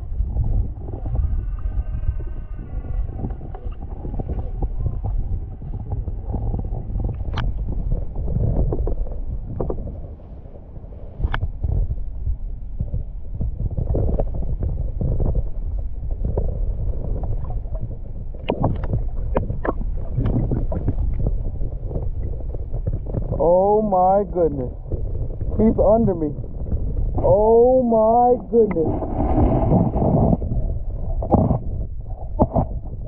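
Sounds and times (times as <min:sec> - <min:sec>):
muffled rumble of water and wind: 0:00.0 - 0:33.0.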